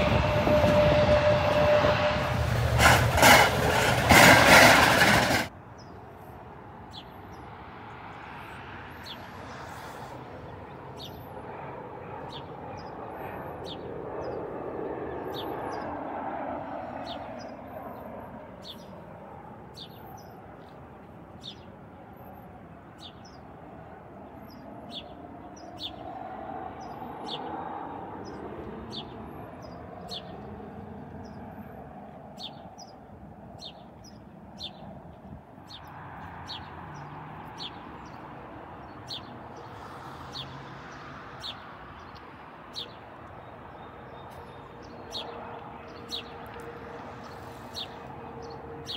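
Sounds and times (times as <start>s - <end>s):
distant jet airliner: 0.0s - 48.9s.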